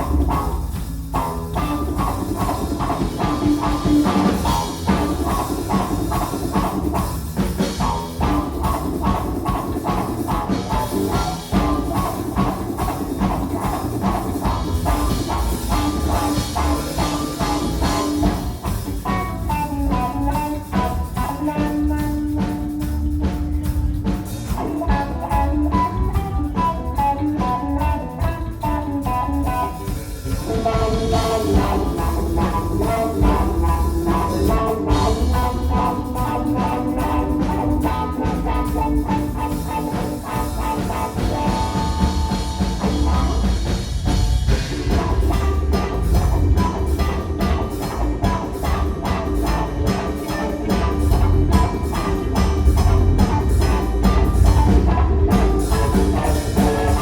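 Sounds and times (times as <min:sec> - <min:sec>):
bass guitar: 0:00.0 - 0:57.0
drum kit beat: 0:00.0 - 0:57.0
electric guitar lead: 0:00.0 - 0:57.0.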